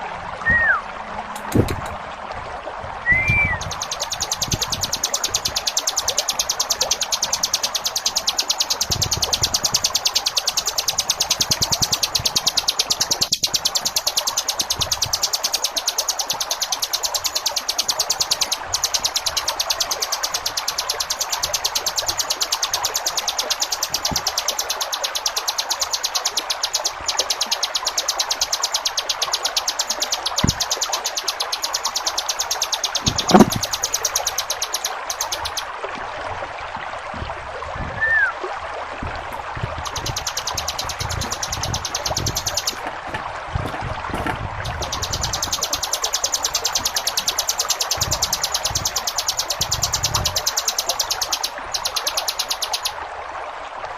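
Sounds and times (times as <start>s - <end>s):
running water hiss: 0.0s - 53.9s
bird singing rapid trill: 3.1s - 35.7s, 39.8s - 42.9s, 44.2s - 53.0s.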